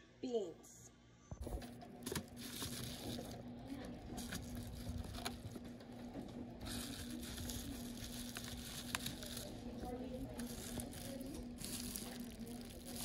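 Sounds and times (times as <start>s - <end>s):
steady low hum: 0.0s - 13.0s
paper envelope rustling: 1.4s - 5.7s, 6.6s - 13.0s.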